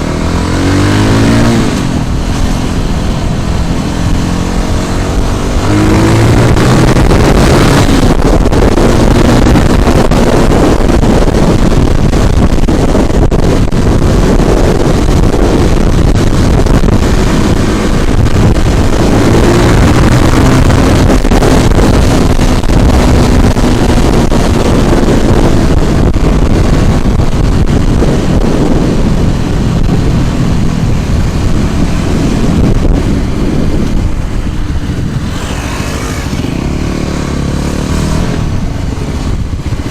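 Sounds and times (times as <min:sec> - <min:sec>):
vehicle engine: 0:00.0 - 0:39.9
wind buffeting microphone: 0:00.0 - 0:39.9.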